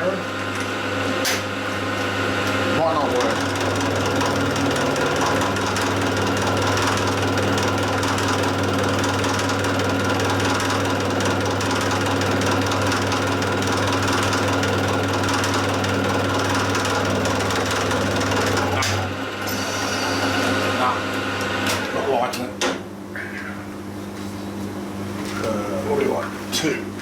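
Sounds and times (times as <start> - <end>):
milling machine cutting with chatter: 0.0 - 22.7.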